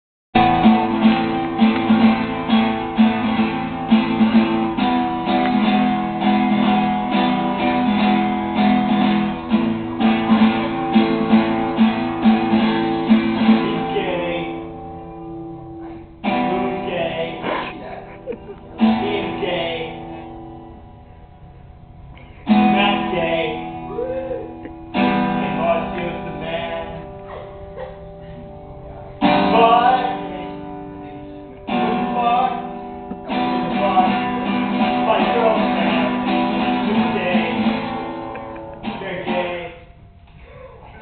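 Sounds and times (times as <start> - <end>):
acoustic guitar strumming: 0.4 - 41.0.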